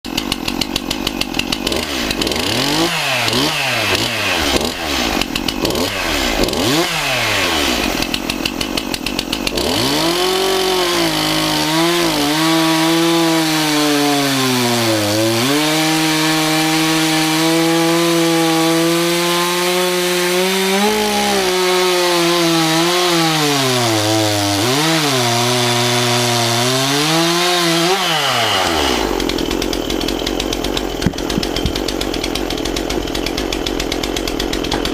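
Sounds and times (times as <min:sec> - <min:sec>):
chainsaw cutting wood: 0:00.1 - 0:34.9
chainsaw revving: 0:00.1 - 0:34.9.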